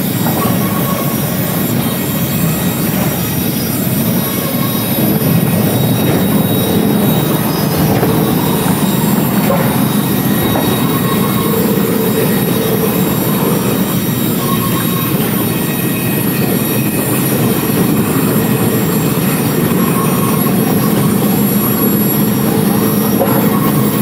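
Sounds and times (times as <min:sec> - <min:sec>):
log conveyor machinery running: 0:00.0 - 0:24.0.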